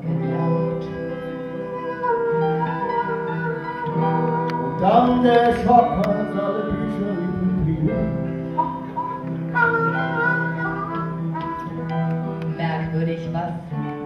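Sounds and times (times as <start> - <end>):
person singing: 0.0 - 12.4
harmonica: 0.0 - 13.4.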